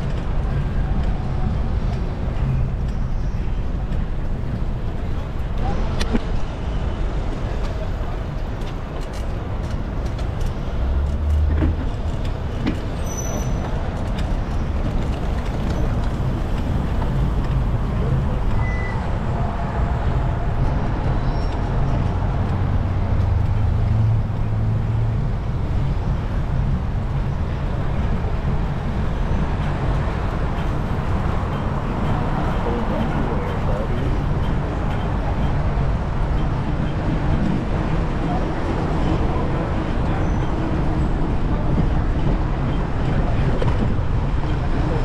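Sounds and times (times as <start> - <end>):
city traffic rumble: 0.0 - 45.0.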